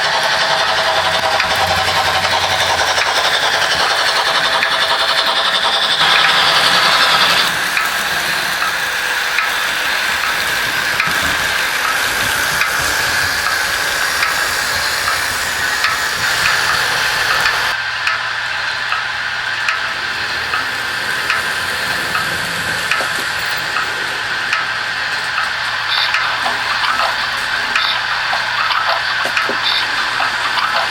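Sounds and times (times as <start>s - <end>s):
model train whirring: 0.0s - 30.9s.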